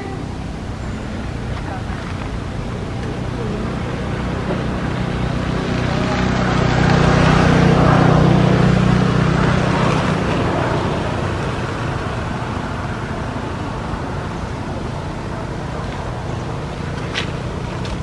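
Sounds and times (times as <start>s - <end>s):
low engine hum: 0.0s - 18.0s
steady rushing noise: 0.0s - 18.0s.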